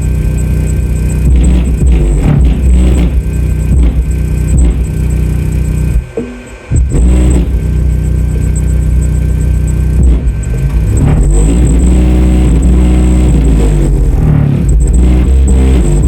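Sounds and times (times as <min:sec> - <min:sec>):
loud deep bass from subwoofer: 0:00.0 - 0:16.0.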